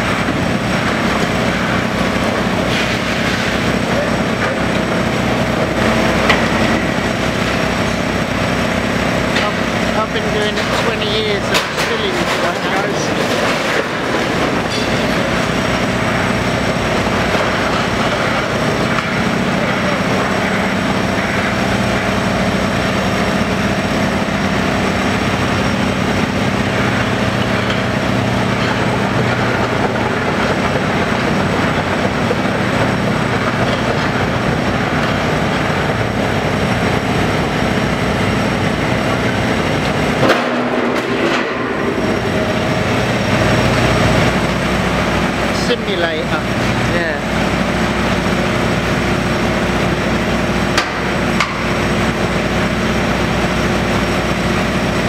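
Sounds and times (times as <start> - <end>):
diesel engine running under load: 0.0 - 55.0
hydraulic shear crunching concrete: 0.0 - 55.0.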